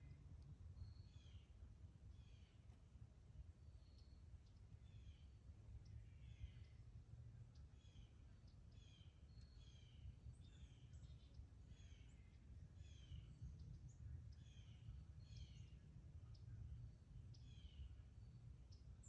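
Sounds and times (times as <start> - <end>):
faint bird chirps: 0.0 - 2.8, 3.6 - 19.0
low outdoor rumble: 0.0 - 19.0.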